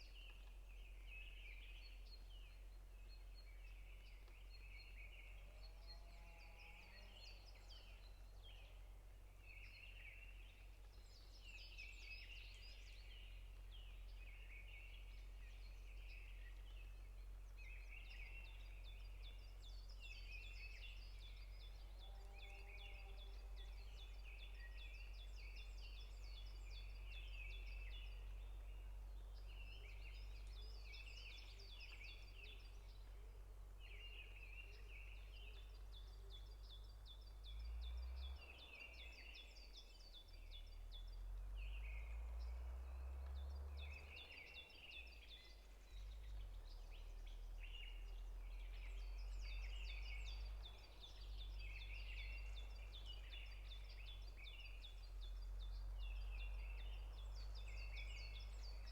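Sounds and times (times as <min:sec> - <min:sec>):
songbirds chirping and trilling: 0:00.0 - 0:58.9.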